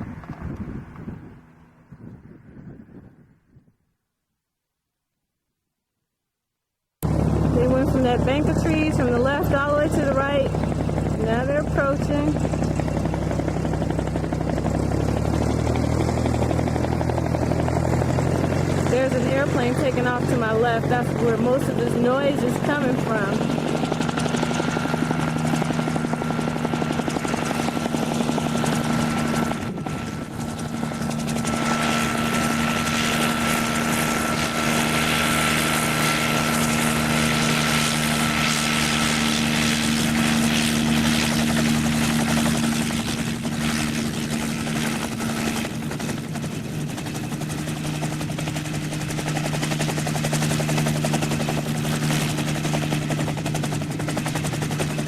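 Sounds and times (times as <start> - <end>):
helicopter rotor beat: 0.0 - 2.6, 7.0 - 55.0.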